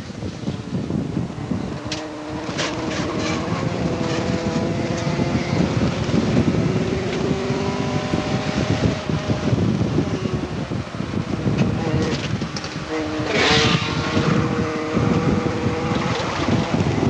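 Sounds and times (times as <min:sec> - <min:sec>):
wind and road noise: 0:00.0 - 0:17.0
car engine accelerating: 0:00.6 - 0:17.0.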